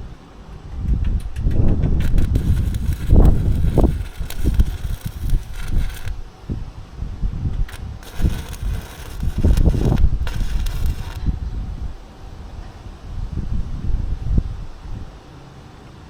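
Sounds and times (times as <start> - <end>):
wind buffeting microphone: 0.6 - 15.2
faint hiss: 1.3 - 16.0.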